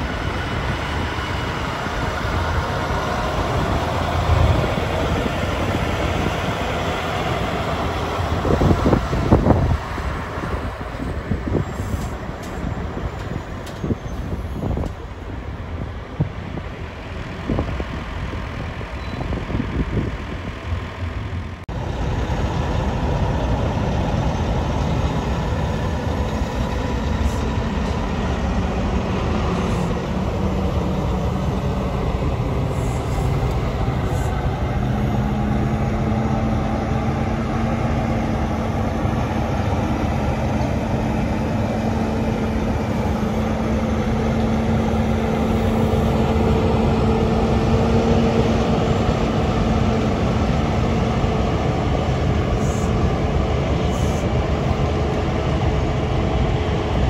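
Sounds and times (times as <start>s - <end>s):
truck diesel engine passing: 0.0s - 57.0s.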